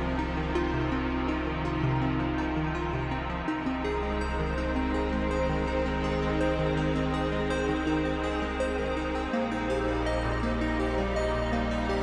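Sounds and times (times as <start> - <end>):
calm music with sustained tones: 0.0 - 12.0.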